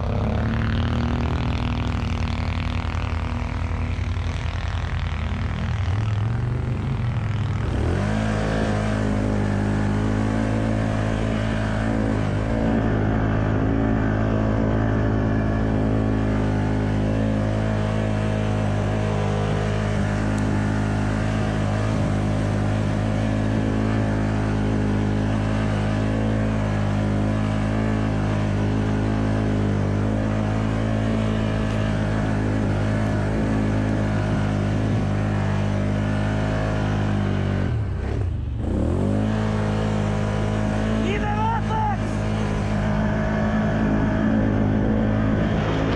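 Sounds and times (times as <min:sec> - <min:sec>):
quad engine running under load: 0:00.0 - 0:45.9.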